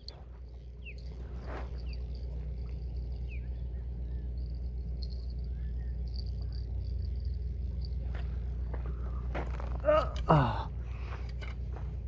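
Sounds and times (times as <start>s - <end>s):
insects chirping: 0.0s - 12.0s
steady low rumble: 0.0s - 12.0s.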